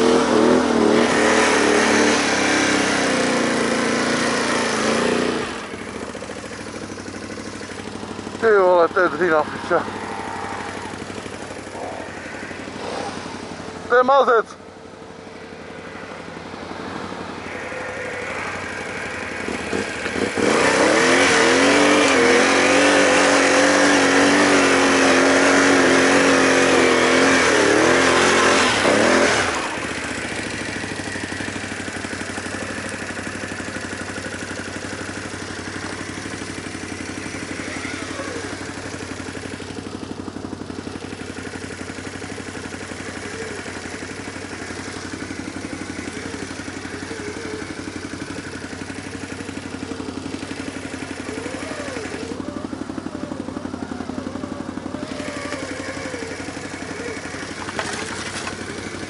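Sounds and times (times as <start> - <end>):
engine revving hard: 0.0 - 6.0, 8.4 - 13.6, 16.9 - 39.9, 41.0 - 59.0.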